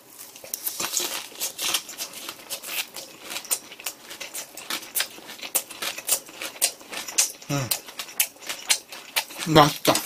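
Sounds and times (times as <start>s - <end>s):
crunchy chewing: 0.2s - 10.0s.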